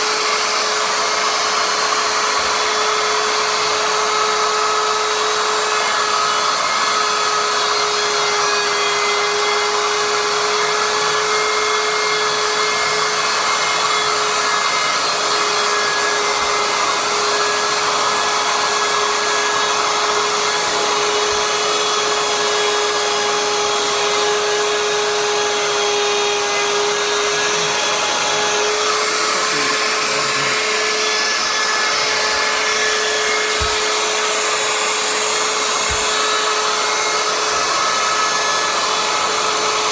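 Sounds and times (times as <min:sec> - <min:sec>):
router motor whine: 0:00.0 - 0:39.9.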